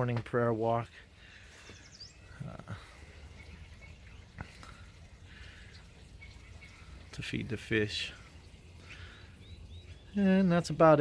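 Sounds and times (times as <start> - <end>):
distant bird chirps: 0.8 - 11.0.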